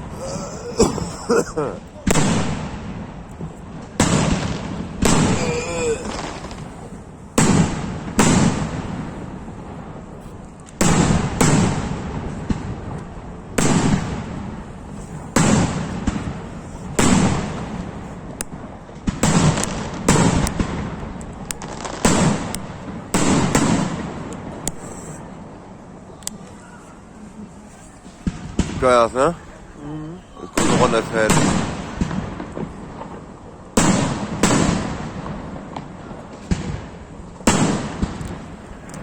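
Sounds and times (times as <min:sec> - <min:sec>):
fireworks bursting with echo: 0:00.0 - 0:29.8, 0:30.5 - 0:39.0.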